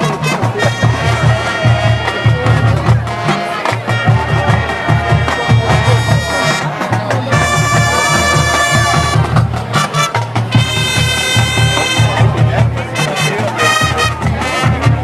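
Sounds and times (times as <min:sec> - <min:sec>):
drums pounding a beat: 0:00.0 - 0:15.0
marching band playing: 0:00.0 - 0:15.0.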